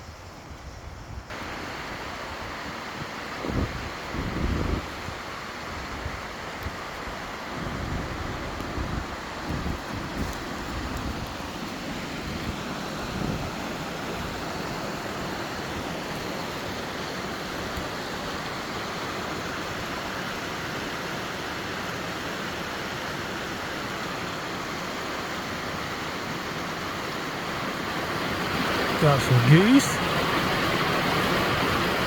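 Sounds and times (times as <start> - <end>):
running water rushing: 1.3 - 32.0.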